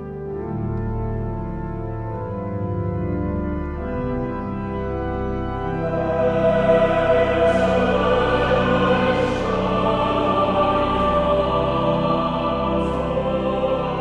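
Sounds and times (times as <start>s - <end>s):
church organ chords: 0.0s - 14.0s.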